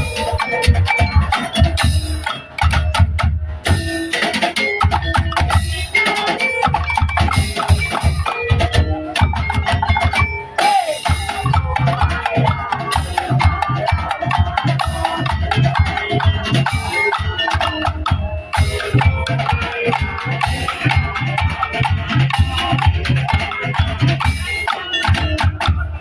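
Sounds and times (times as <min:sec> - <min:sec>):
bass drums: 0:00.0 - 0:04.2, 0:06.7 - 0:26.0
pitched melodic percussion: 0:00.0 - 0:26.0
slit drums playing rhythm: 0:00.0 - 0:26.0.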